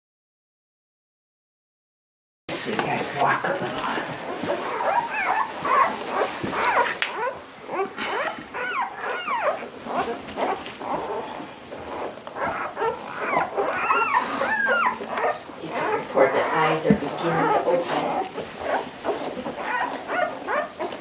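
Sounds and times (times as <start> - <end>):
puppies whimpering and squeaking: 3.8 - 21.0.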